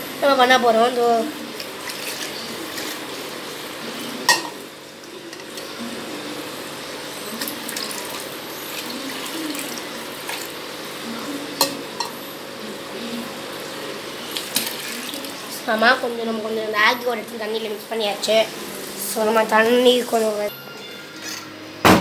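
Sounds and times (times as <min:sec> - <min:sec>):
water running: 0:00.0 - 0:20.7.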